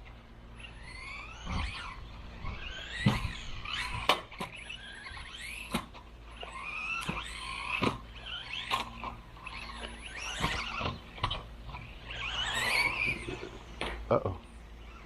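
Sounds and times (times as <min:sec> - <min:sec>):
rc buggy motor whining: 0:00.0 - 0:15.0.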